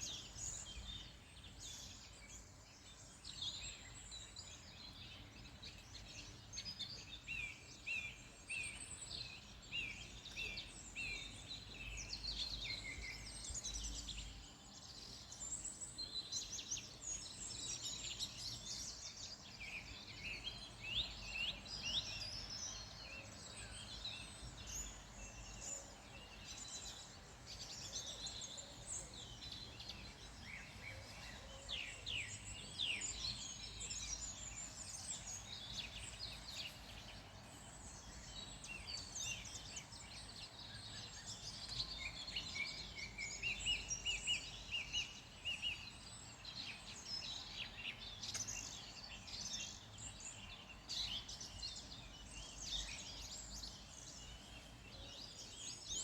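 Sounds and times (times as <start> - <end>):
wild birds singing: 0.0 - 56.0.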